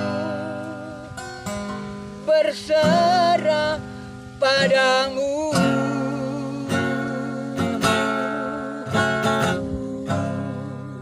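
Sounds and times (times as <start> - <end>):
acoustic guitar chords ringing: 0.0 - 11.0.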